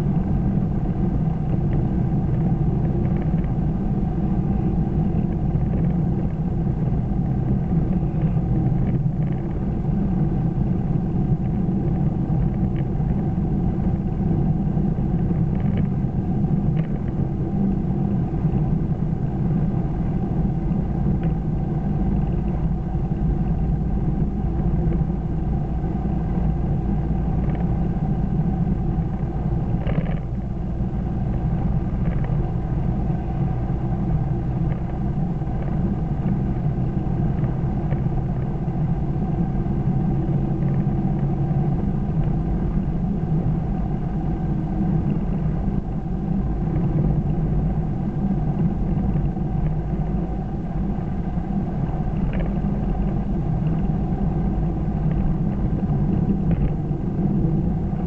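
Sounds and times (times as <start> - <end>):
car road noise in cabin: 0.0 - 58.0.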